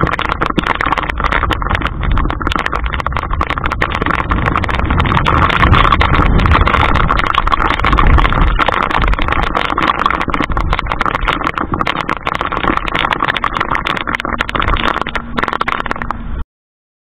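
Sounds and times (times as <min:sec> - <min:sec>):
rain patter: 0:00.0 - 0:16.2
heavy low wind rumble: 0:00.0 - 0:16.4.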